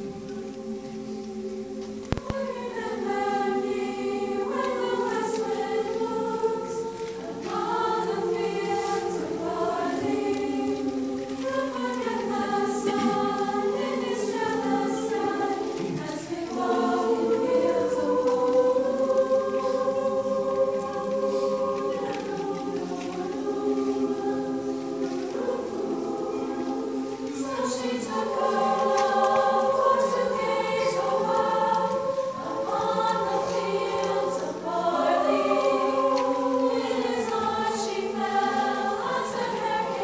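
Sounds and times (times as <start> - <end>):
girls' choir singing: 0.0 - 40.0.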